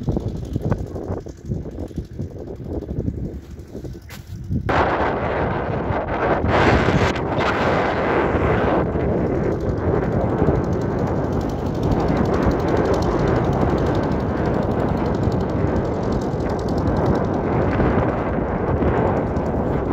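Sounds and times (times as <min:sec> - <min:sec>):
small tractor engine running: 0:00.0 - 0:19.9.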